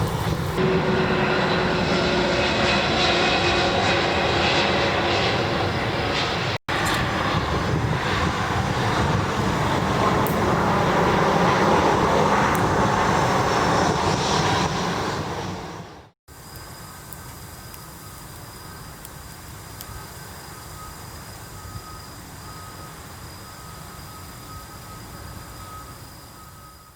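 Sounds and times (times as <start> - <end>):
jet airliner passing overhead: 0.0 - 16.2, 20.0 - 26.9.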